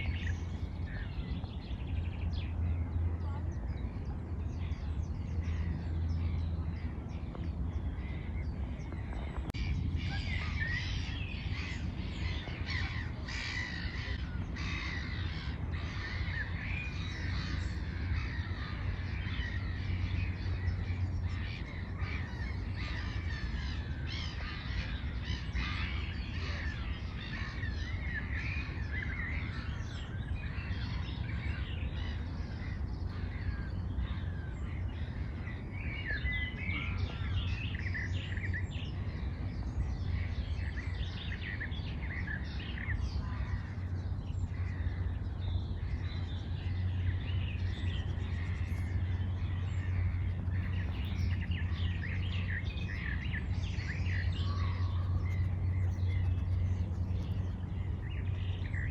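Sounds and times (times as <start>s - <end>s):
birds chirping: 0.0s - 58.9s
steady low rumble: 0.0s - 58.9s.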